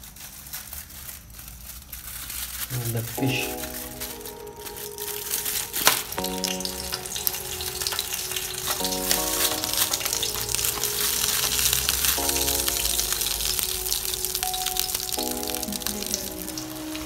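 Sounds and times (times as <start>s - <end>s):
aluminium foil crinkling: 0.0s - 17.0s
oil sizzling and crackling: 0.0s - 17.0s.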